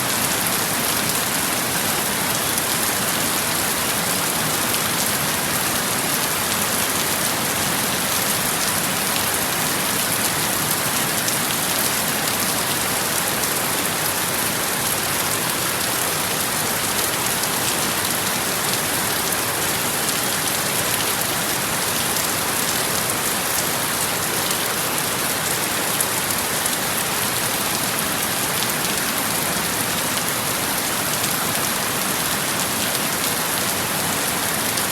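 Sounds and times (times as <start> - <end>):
steady rainfall pattering: 0.0 - 34.9.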